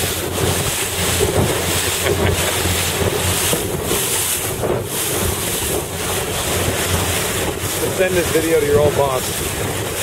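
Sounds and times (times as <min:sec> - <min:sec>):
water splashing along hull: 0:00.0 - 0:10.0
wind buffeting microphone: 0:00.0 - 0:10.0.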